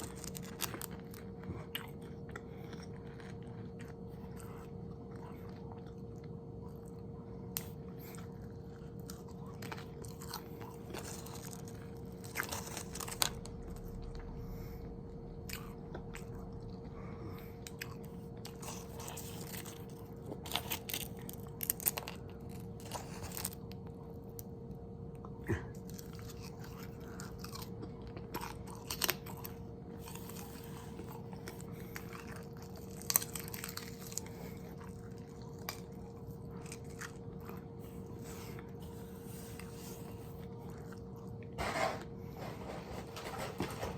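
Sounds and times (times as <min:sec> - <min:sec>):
chewing food: 0:00.0 - 0:41.6
faint hum: 0:00.0 - 0:43.9.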